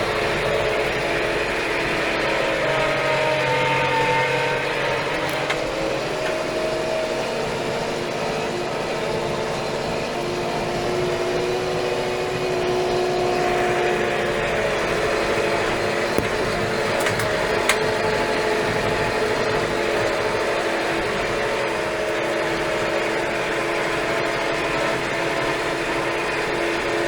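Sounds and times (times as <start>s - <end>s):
tractor diesel engine running: 0.0s - 27.0s
whining tones: 0.0s - 27.0s.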